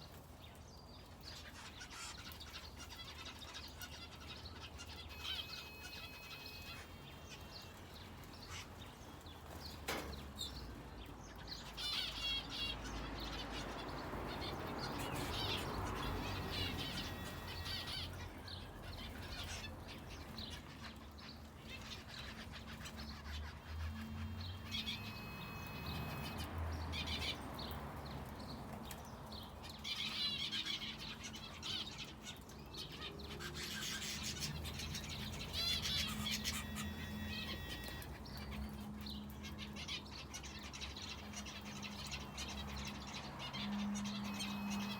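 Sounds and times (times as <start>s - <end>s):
finches and canary chirping: 0.0s - 44.9s.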